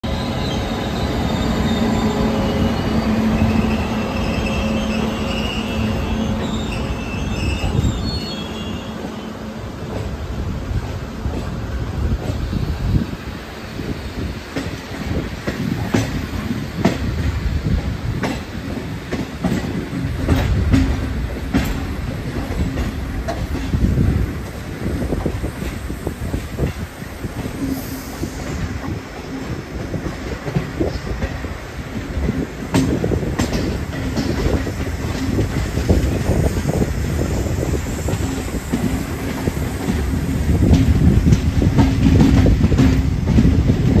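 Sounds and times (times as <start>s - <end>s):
freight train rumbling past: 0.0s - 44.0s
train wheels clacking on rails: 0.0s - 44.0s.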